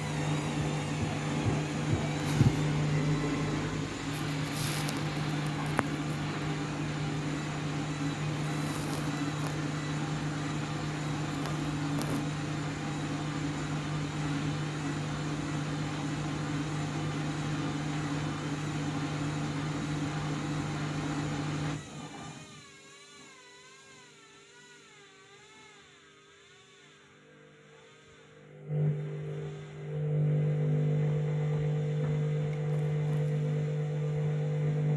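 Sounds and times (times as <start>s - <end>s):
washing machine spinning: 0.0s - 23.2s, 28.3s - 34.9s.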